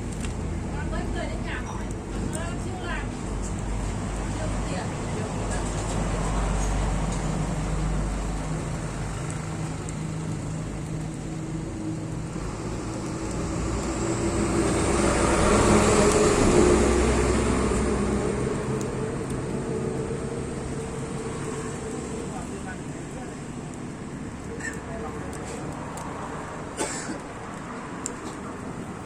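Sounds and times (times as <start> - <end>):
vehicle hum: 0.0 - 29.0
vehicle passing: 3.7 - 29.0.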